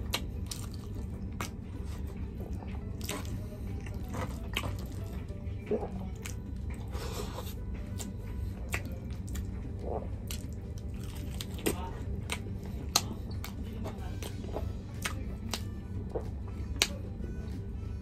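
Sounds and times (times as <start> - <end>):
wet chewing and mouth smacks: 0.0 - 17.2
steady low hum: 0.0 - 18.0.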